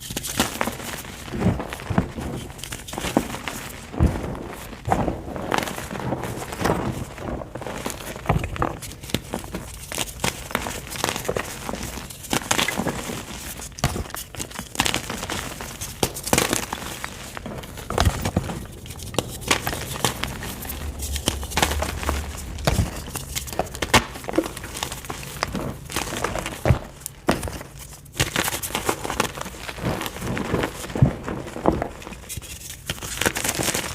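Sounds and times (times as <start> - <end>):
chalk crumbling and crackling: 0.0 - 33.9.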